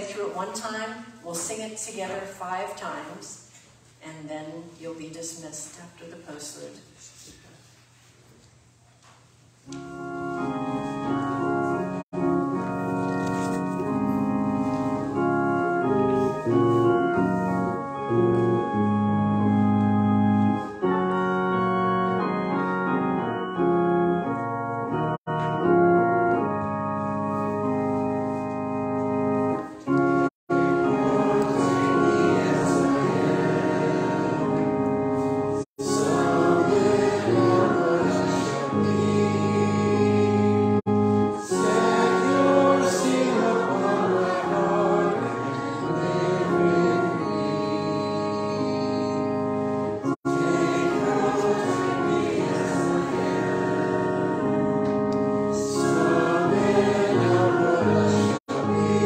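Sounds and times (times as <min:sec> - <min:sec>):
church organ playing: 0:09.6 - 0:59.0
congregation singing a hymn: 0:09.7 - 0:26.5, 0:27.4 - 0:59.0.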